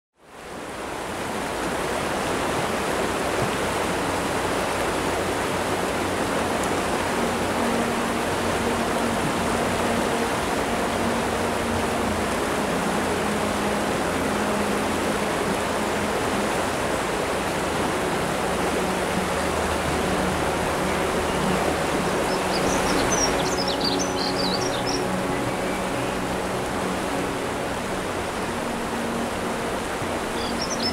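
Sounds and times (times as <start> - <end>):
water rushing over rocks: 0.2 - 30.9.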